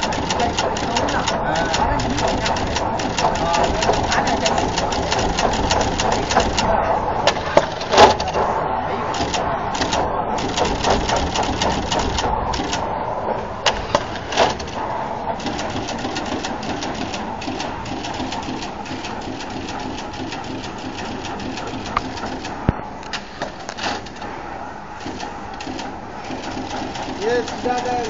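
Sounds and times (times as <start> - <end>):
machine clattering clicks: 0.0 - 8.5, 9.1 - 12.9, 13.6 - 24.4, 25.0 - 28.0.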